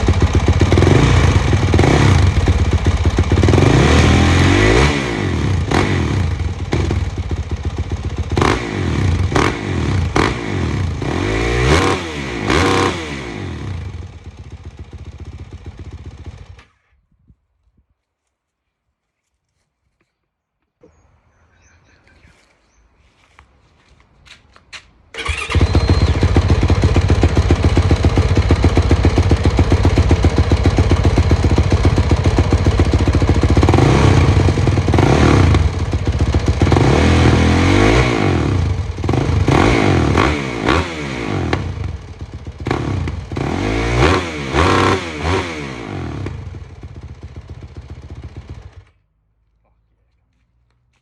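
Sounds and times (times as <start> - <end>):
motorcycle engine idling and revving: 0.0 - 16.8, 25.2 - 49.5.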